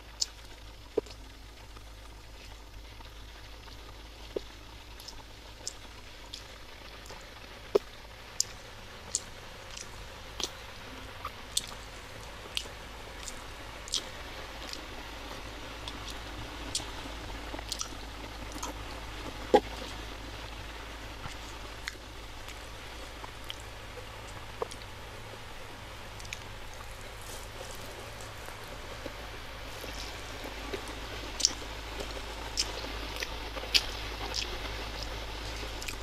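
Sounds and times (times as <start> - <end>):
chewing soft cake: 0.0 - 36.0
wet mouth clicks: 0.2 - 2.6, 3.6 - 20.0, 21.0 - 25.0, 25.6 - 36.0.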